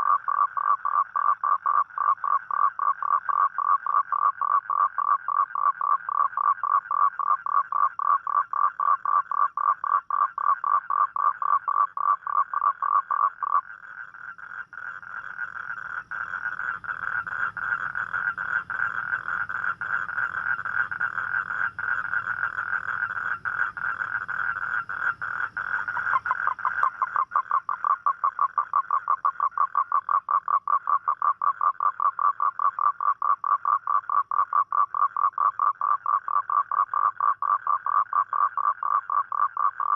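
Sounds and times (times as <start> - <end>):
toad croaking: 0.0 - 39.9.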